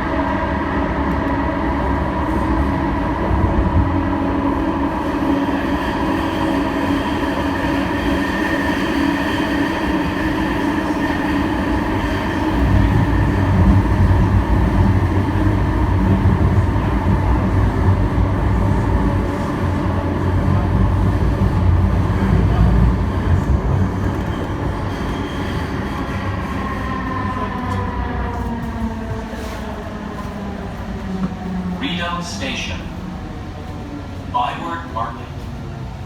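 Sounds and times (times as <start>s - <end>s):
train drive whine: 0.0s - 36.0s
train wheels rumbling on rail: 0.0s - 36.0s.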